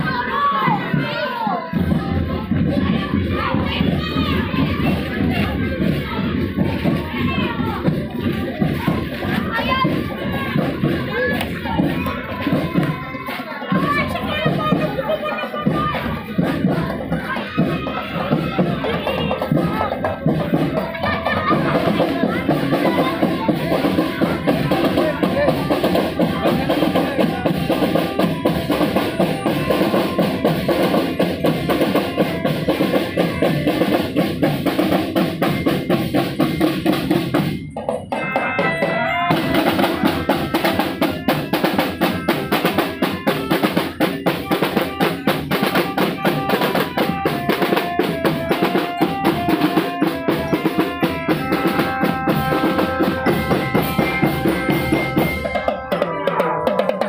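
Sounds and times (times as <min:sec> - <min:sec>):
marching drum band: 0:00.0 - 0:57.0.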